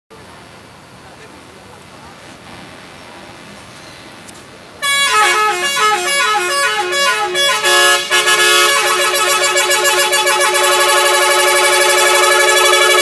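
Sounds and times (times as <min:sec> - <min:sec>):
air horn playing a tune: 0:00.2 - 0:13.0.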